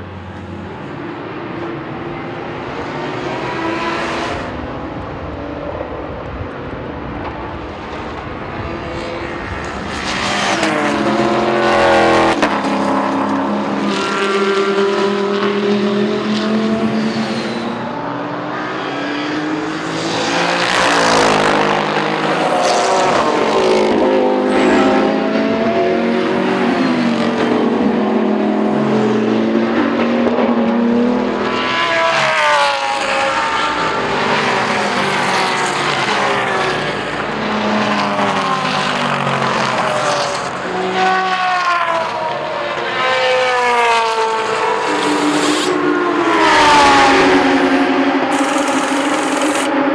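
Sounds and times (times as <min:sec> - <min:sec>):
race cars revving past: 0:00.2 - 0:06.1, 0:06.8 - 0:49.9.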